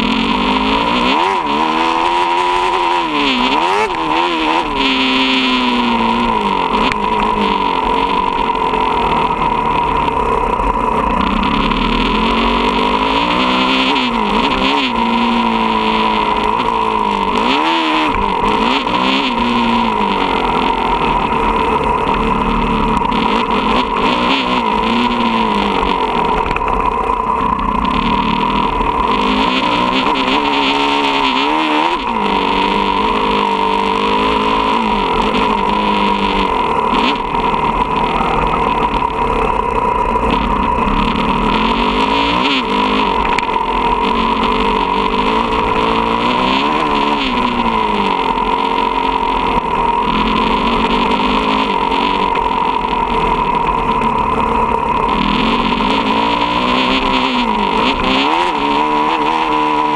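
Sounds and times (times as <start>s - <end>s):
motocross bike engine revving: 0.0s - 59.9s
steady rushing noise: 0.0s - 59.9s.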